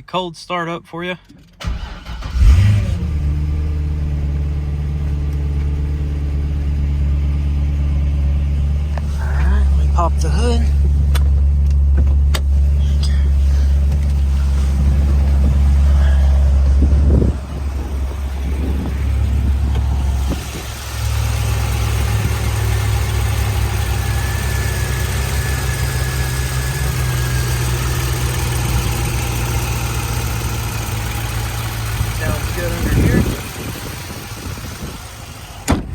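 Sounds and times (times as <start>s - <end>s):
car engine idling: 1.3s - 35.9s.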